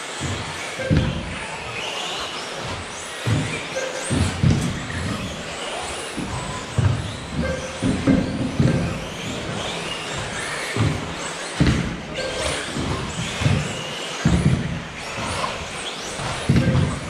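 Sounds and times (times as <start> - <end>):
rc car motors whining: 0.0 - 17.0
cars thumping on track: 0.2 - 17.0
tyre noise: 0.2 - 17.0.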